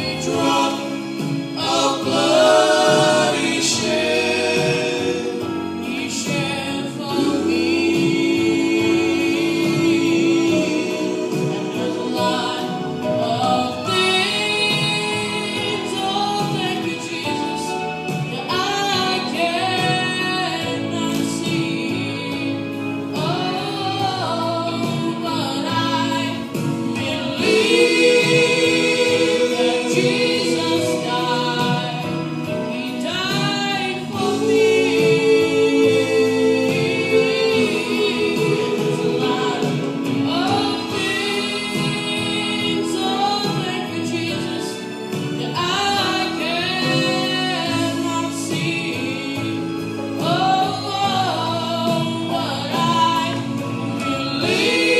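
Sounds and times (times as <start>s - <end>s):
vocal group singing gospel: 0.0s - 54.9s.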